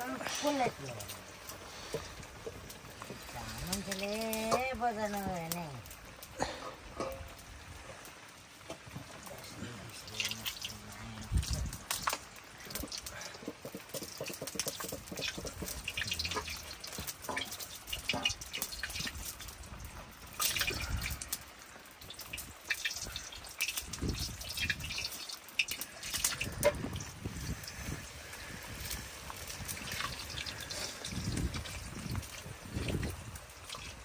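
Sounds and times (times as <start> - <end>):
rain falling: 0.0 - 34.0
water drips splashing: 0.0 - 34.0.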